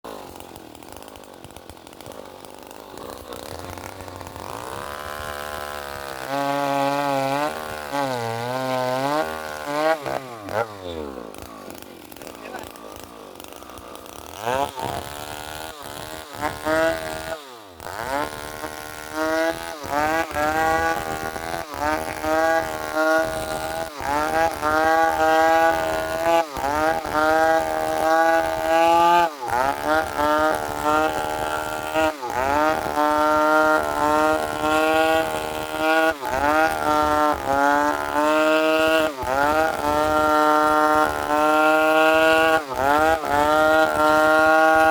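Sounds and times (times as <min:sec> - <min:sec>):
chainsaw engine revving: 0:00.0 - 0:44.9.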